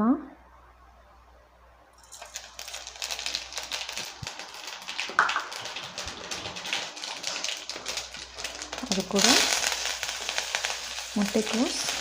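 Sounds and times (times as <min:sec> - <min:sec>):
seeds sizzling in hot oil: 0:02.0 - 0:12.0.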